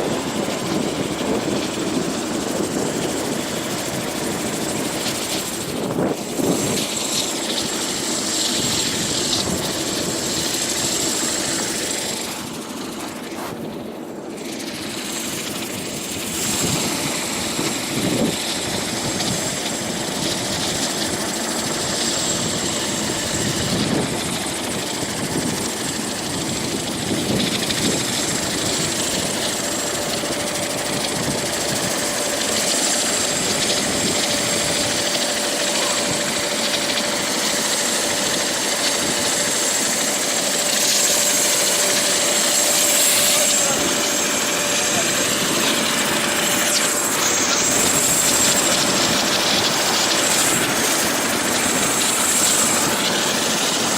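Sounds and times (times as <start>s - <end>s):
helicopter rotor and engine: 0.0s - 53.9s
steady whine: 0.0s - 53.9s.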